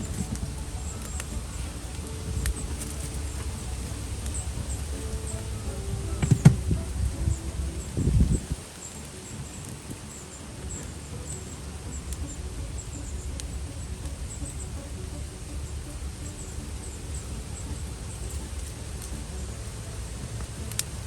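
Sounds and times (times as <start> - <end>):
campfire popping: 0.0 - 21.0
fire low rumble: 0.0 - 21.0.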